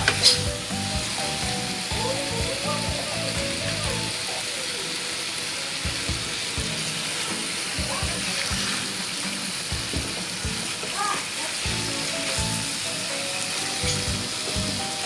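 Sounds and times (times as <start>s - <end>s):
background music: 0.0s - 15.0s
potatoes sizzling in oil: 0.0s - 15.0s.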